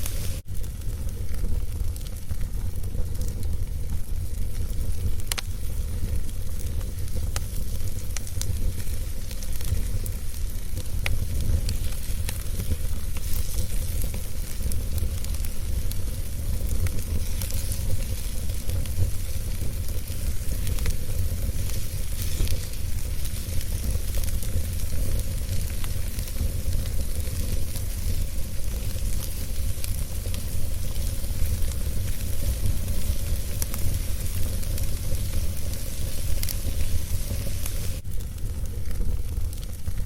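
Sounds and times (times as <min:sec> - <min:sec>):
fire pops and snaps: 0:00.0 - 0:40.0
wood fire crackling: 0:00.0 - 0:40.0.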